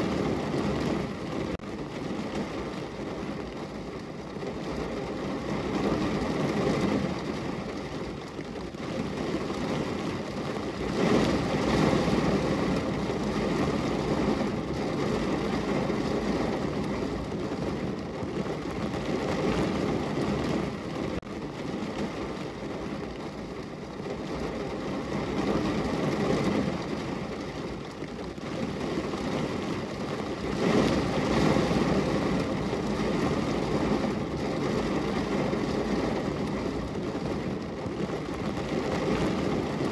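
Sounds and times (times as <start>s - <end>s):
rain against a window pane: 0.0s - 39.9s.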